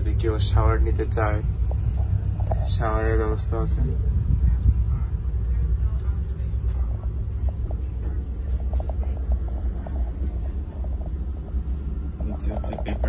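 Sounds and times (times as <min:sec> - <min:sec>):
train rumble inside car: 0:00.0 - 0:13.0.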